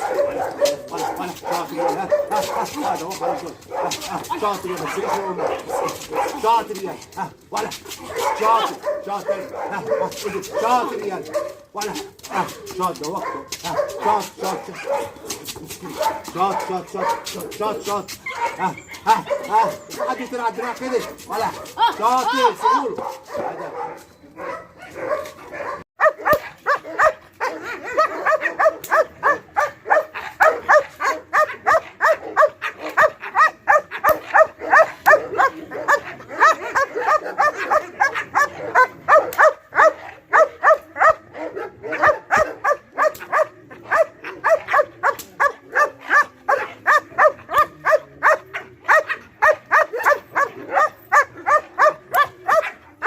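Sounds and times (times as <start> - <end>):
dog barking: 0.0 - 7.0, 8.0 - 21.9, 22.7 - 53.0.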